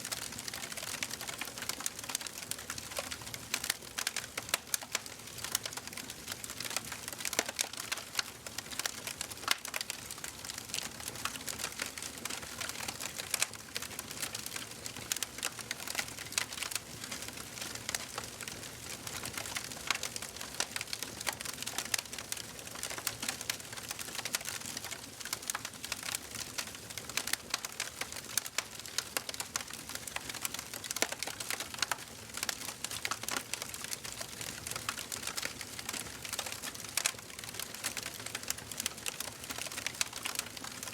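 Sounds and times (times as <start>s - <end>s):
wood fire crackling and popping: 0.1s - 40.9s.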